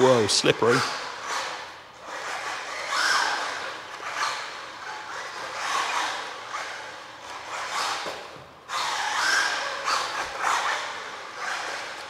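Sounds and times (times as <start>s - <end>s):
rc car motor whining: 0.0s - 12.0s.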